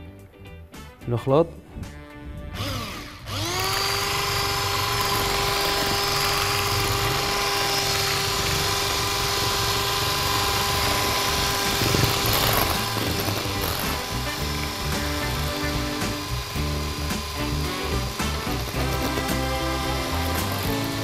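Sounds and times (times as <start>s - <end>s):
electric mixer whining: 2.5s - 21.0s.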